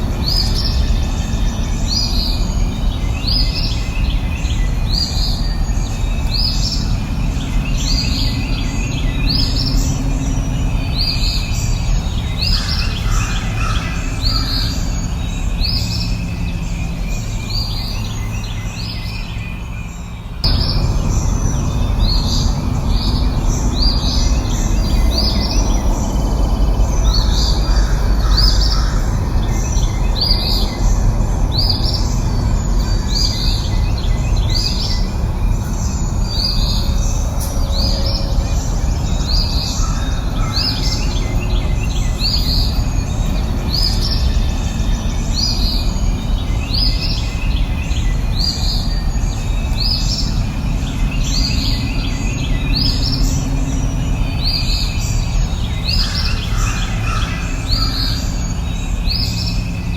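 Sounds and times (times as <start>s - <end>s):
bird chirping: 0.0s - 59.9s
low background rumble: 0.0s - 59.9s.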